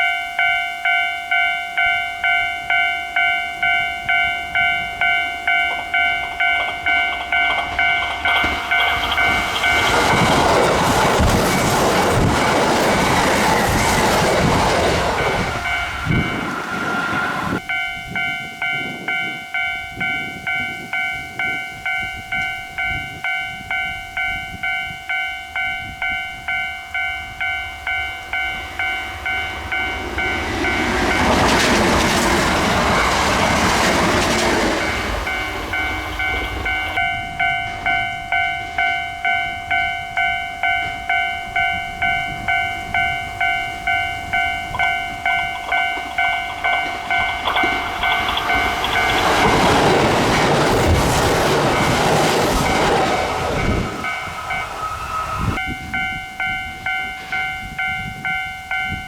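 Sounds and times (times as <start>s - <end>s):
electric train passing: 0.0s - 59.0s
level crossing bell clanging: 0.0s - 59.0s.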